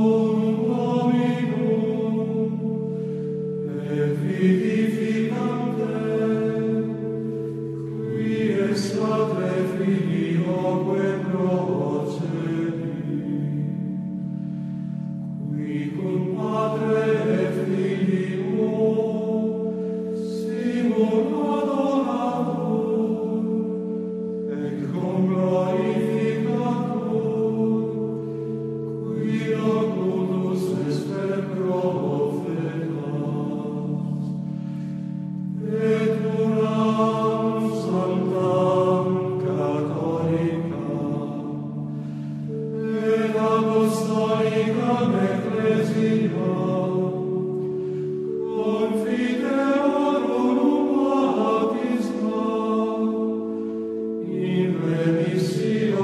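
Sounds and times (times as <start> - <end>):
choir chanting: 0.0 - 14.5, 15.4 - 56.0.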